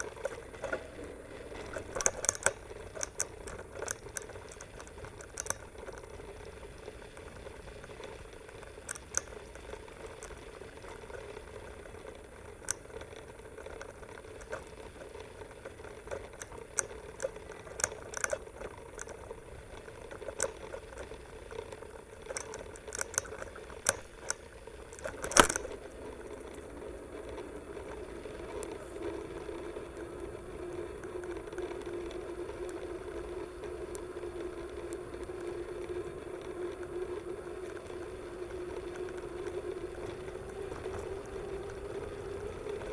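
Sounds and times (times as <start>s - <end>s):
bike frame rattling and clicking: 0.0s - 42.9s.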